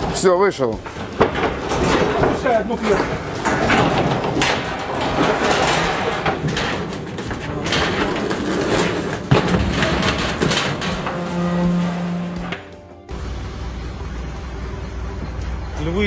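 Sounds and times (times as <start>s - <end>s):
crates scraping on truck floor: 0.0s - 12.9s.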